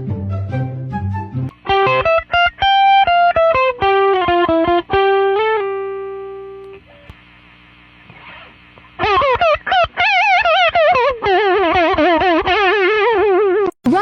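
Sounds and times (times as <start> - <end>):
electric guitar melodic run: 0.0 - 7.1, 8.1 - 13.7.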